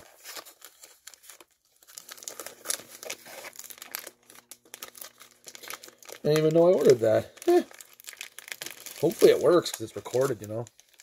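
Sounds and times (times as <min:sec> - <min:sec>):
plastic mailer bag crinkling and tearing: 0:00.0 - 0:11.0.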